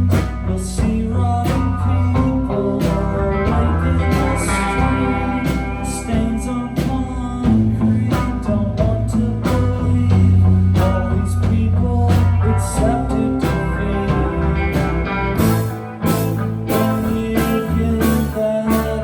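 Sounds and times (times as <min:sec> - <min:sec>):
live blues-rock band: 0:00.0 - 0:19.0.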